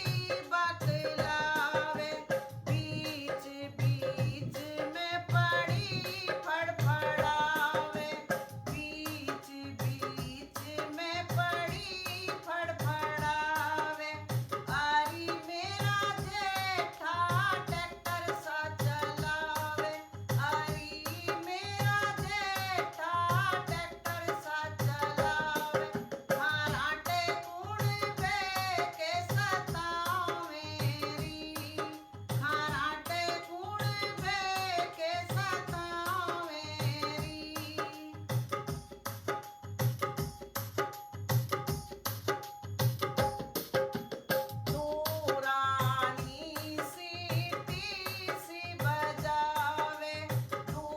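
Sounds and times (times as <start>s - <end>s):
woman singing: 0.0s - 38.8s, 44.4s - 50.9s
hand drum beat: 0.0s - 50.9s.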